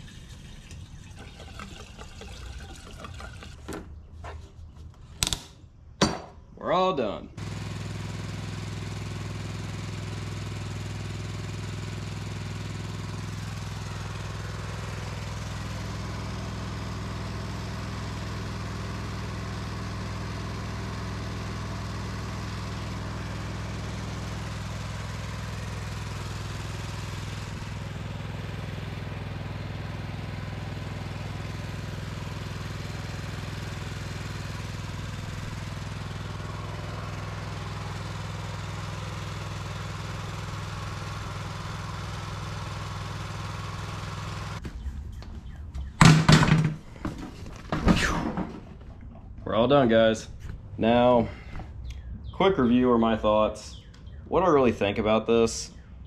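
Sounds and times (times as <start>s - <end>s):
mower engine droning: 0.0s - 4.5s, 7.4s - 56.0s.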